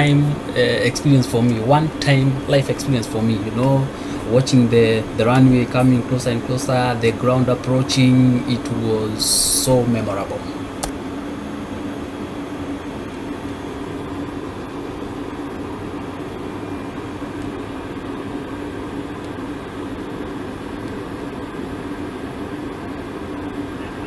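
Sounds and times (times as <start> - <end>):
airliner cockpit airflow and engines: 0.0 - 24.0
steady low hum: 0.0 - 24.0.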